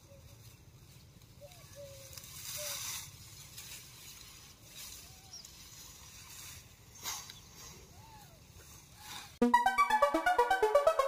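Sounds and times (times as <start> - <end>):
dry crop stalks rustling: 0.0 - 9.4.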